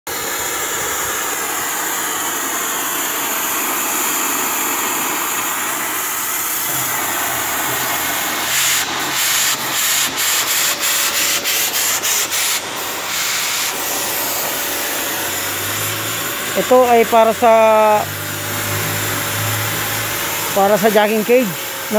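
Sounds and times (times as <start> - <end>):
power grinder whining: 0.1 - 21.9.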